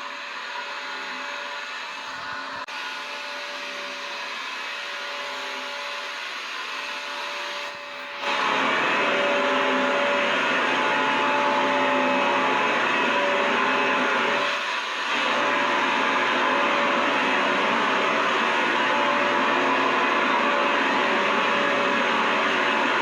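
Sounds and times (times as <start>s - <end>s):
vacuum cleaner motor running: 0.0s - 23.0s.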